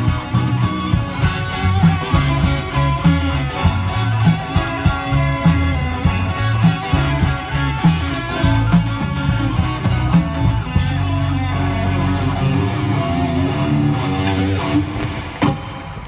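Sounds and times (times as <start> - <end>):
held guitar chord ringing: 0.0 - 15.9
live rock band playing: 0.0 - 16.0.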